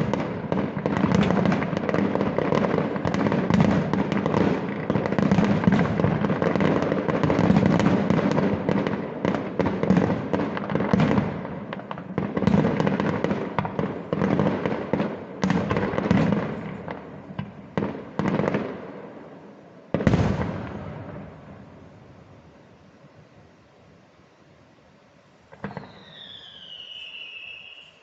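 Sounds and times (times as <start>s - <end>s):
fireworks bangs and crackling: 0.0s - 23.4s, 25.4s - 28.0s.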